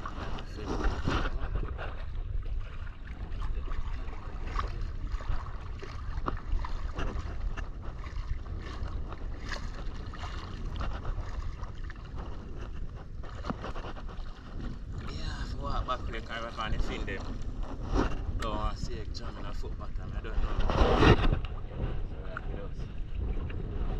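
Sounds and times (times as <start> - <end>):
seawater sloshing and splashing: 0.0 - 23.9
steady low rumble: 0.0 - 23.9.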